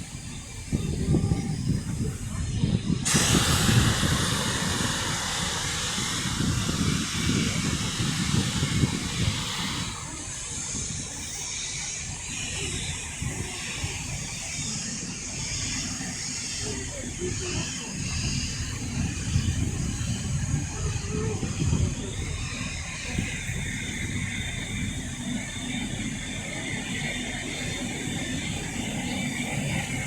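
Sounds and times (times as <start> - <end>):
compressed air venting hiss: 0.0 - 30.0
low train rumble: 0.0 - 30.0.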